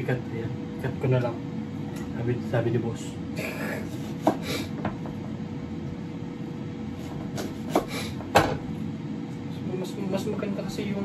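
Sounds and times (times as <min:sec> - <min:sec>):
air fryer humming: 0:00.0 - 0:11.0.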